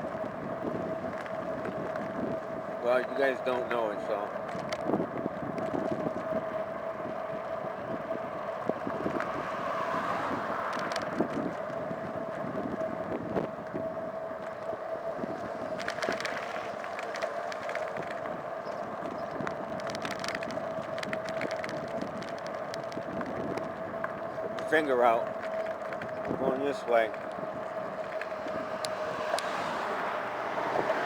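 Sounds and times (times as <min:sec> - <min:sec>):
wind buffeting microphone: 0:00.0 - 0:31.0
light clicks and rattles: 0:00.1 - 0:07.5, 0:08.5 - 0:12.9, 0:13.5 - 0:30.0.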